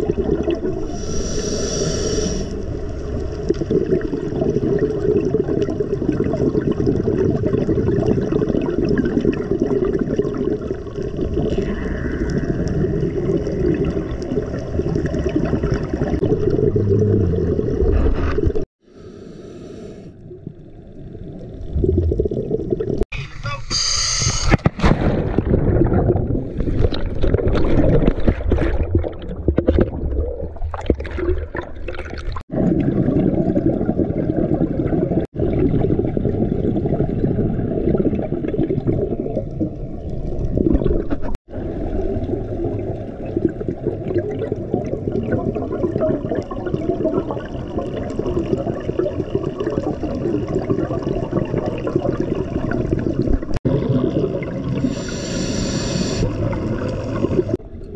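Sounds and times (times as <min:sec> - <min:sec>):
bubbling and splashing water: 0:00.0 - 0:01.4, 0:02.5 - 0:18.7, 0:20.2 - 0:23.1, 0:24.7 - 0:57.9.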